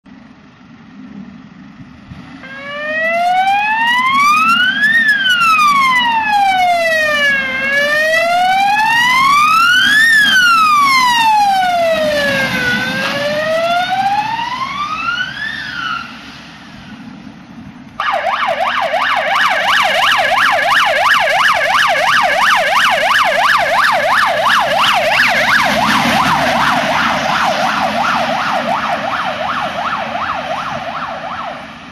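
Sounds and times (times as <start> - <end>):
siren fast yelp: 2.4 - 16.2, 18.0 - 31.7
ambulance siren wailing: 2.4 - 16.4, 18.0 - 31.9.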